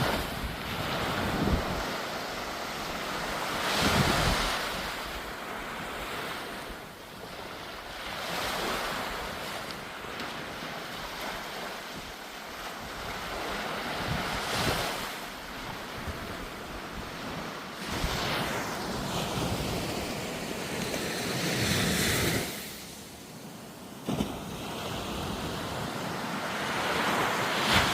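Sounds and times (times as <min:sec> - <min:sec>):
sea waves breaking: 0:00.0 - 0:27.9
wind blowing across microphone: 0:00.0 - 0:27.9.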